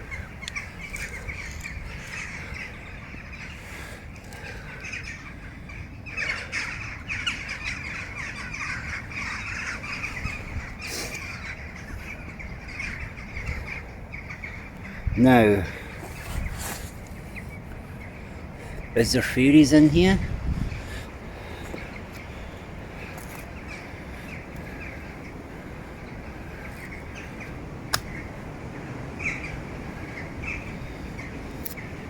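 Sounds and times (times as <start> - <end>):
birds calling: 0.0 - 32.0.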